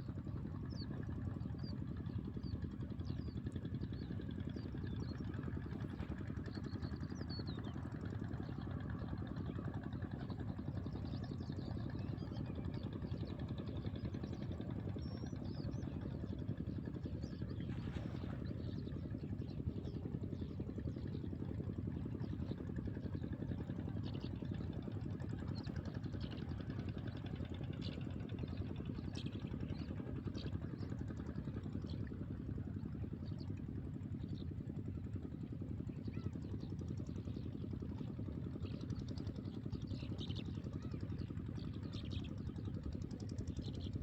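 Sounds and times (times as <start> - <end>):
small engine idling: 0.0 - 44.0.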